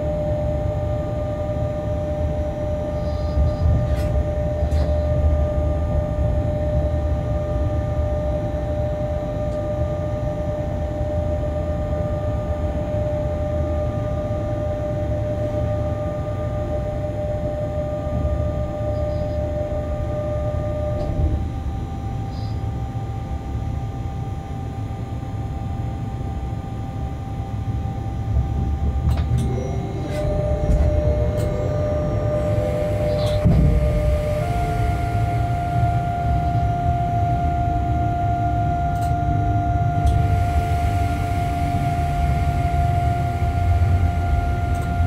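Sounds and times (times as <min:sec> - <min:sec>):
train rumble: 0:00.0 - 0:23.8, 0:26.9 - 0:37.9, 0:38.9 - 0:45.0
constant whine: 0:00.0 - 0:45.0.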